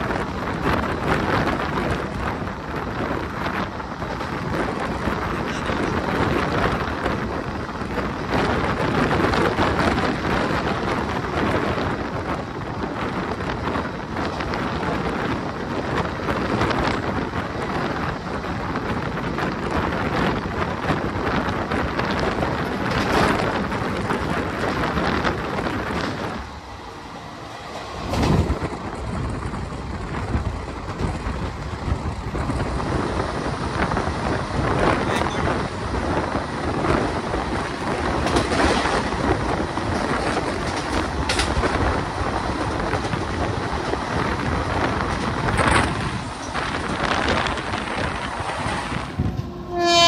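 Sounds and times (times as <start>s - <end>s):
train rushing rumble: 0.0s - 50.0s.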